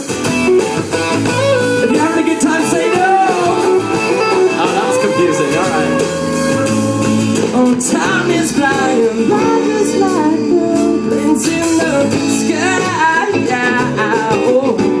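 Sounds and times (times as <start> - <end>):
guitar: 0.0 - 15.0
song with gliding melodic lines: 0.0 - 15.0
wordless vocals: 1.8 - 15.0.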